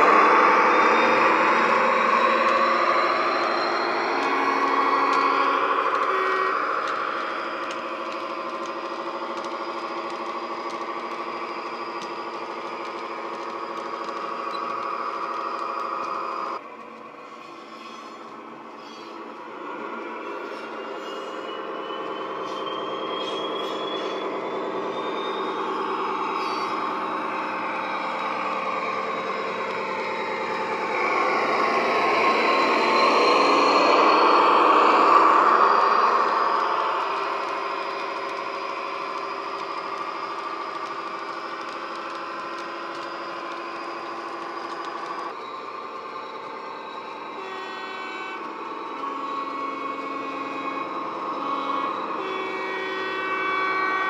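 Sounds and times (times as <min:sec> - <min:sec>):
diesel engine through small speaker: 0:00.0 - 0:17.4, 0:18.4 - 0:54.0
light clicks of wheels on track: 0:00.0 - 0:53.8.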